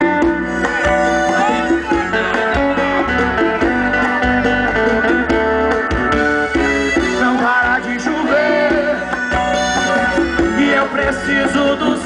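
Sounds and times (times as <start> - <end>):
guitar: 0.0 - 12.0
live band playing: 0.0 - 12.0.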